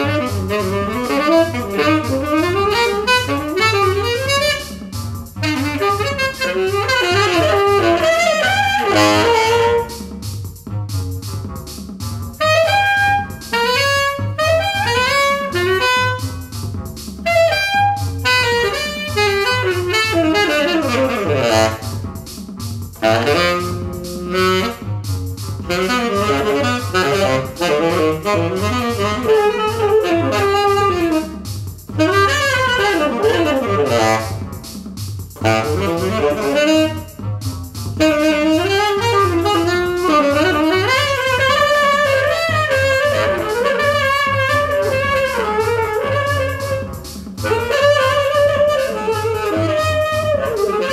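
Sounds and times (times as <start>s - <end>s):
backing track with pulsing bass: 0.0s - 50.9s
saxophone-like lead melody: 0.0s - 50.9s.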